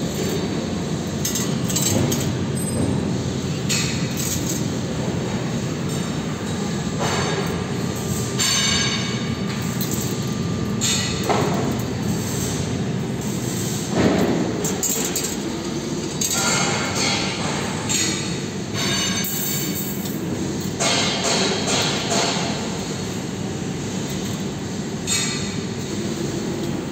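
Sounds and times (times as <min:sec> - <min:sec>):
wire bending machine running: 0:00.0 - 0:26.9.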